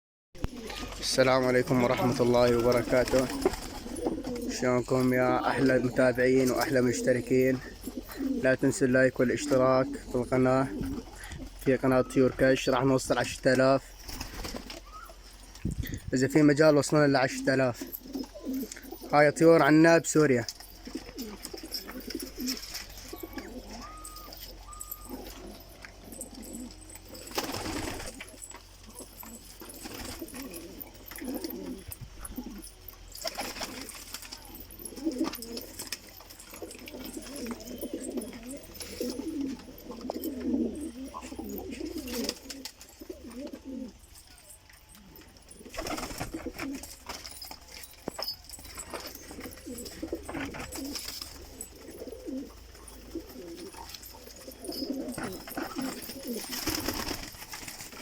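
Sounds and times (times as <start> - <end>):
pigeons cooing: 0.4 - 58.0.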